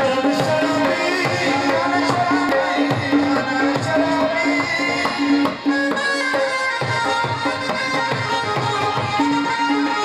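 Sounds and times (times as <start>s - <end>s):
barrel drum and tabla: 0.0s - 10.0s
harmonium and saxophone melody: 0.0s - 10.0s.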